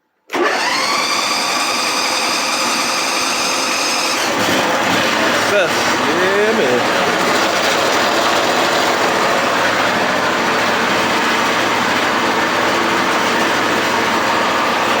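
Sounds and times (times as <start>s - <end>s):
lawn mower engine running: 0.3s - 15.0s.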